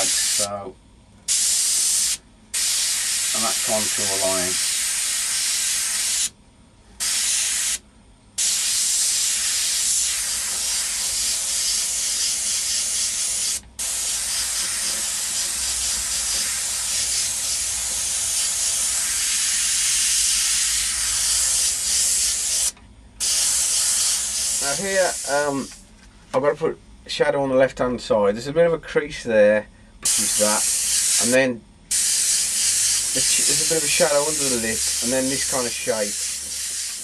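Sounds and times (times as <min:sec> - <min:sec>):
airbrush hissing: 0:00.0 - 0:00.5, 0:01.3 - 0:06.3, 0:07.0 - 0:07.8, 0:08.4 - 0:25.8, 0:30.0 - 0:37.0.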